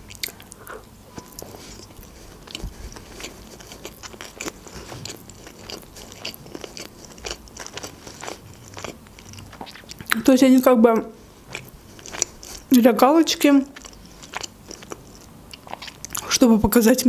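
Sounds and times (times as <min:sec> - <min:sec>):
person chewing food: 0:00.0 - 0:10.2, 0:11.1 - 0:12.7, 0:13.7 - 0:16.3.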